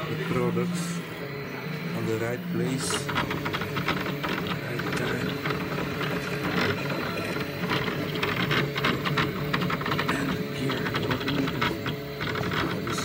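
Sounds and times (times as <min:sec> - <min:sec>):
rapid uneven chattering: 0:00.0 - 0:13.0
steady low hum: 0:00.0 - 0:13.0
stepper motors whirring and buzzing: 0:00.0 - 0:13.0.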